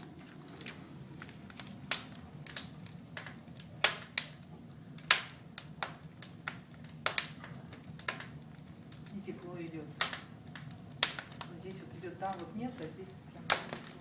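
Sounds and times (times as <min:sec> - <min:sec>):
low steady hum: 0:00.0 - 0:14.0
wood fire crackling and popping: 0:00.0 - 0:14.0.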